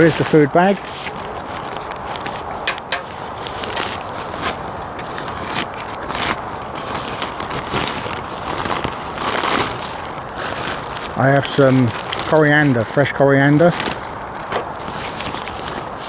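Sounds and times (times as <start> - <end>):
food bag rustling: 0.0 - 16.0.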